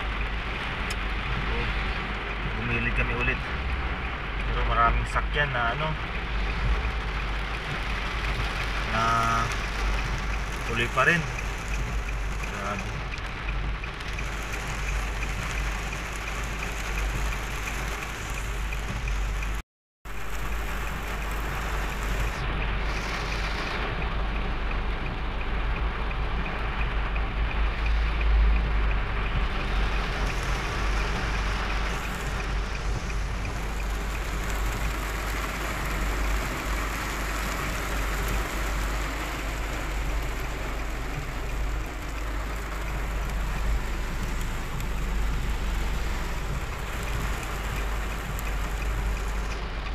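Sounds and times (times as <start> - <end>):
heavy rain drumming on car: 0.0 - 49.9
low rumble: 0.0 - 49.9
tyre and road noise: 0.0 - 49.9.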